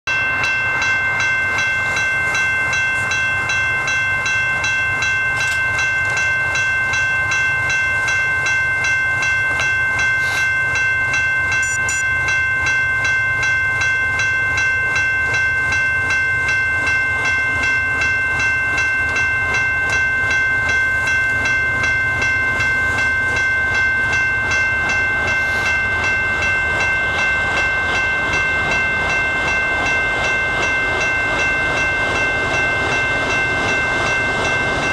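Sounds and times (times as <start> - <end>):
railroad crossing bell ringing: 0.0 - 34.9.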